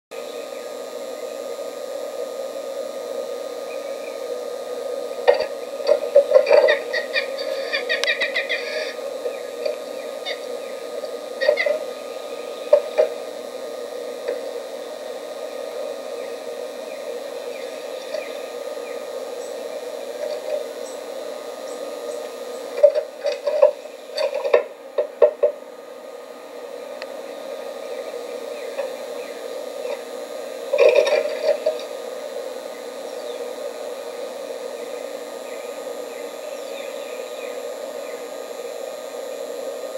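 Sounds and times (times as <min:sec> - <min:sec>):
steady hum and hiss: 0:00.1 - 0:39.9.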